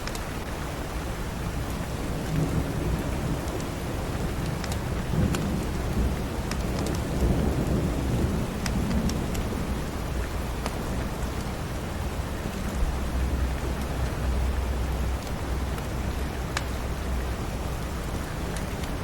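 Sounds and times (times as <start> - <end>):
steady rain: 0.0 - 19.0
thunder rumbling: 1.5 - 19.0
wood fire crackling: 1.6 - 19.0.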